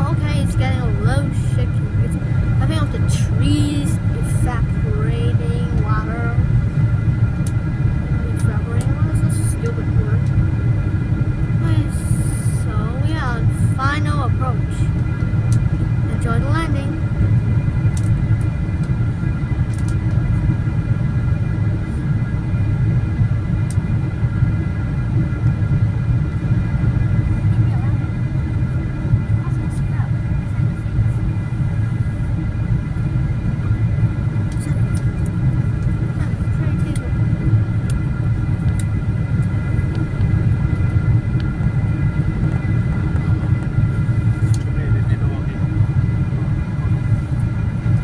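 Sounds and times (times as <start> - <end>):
faint steady tones: 0.0 - 48.0
vehicle rumble from inside: 0.0 - 48.0.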